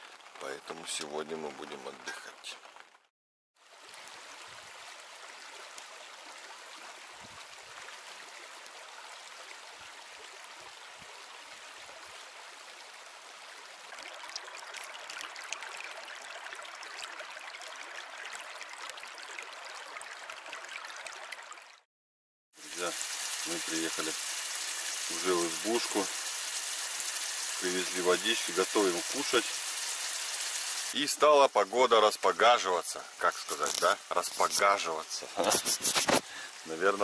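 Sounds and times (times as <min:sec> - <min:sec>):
creek running over rocks: 0:00.0 - 0:21.9, 0:22.6 - 0:37.0.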